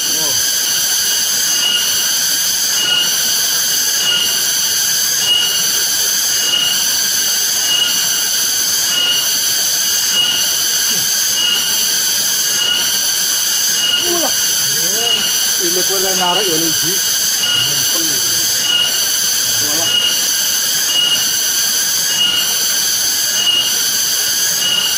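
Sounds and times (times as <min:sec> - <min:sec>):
cicadas buzzing: 0:00.0 - 0:24.9.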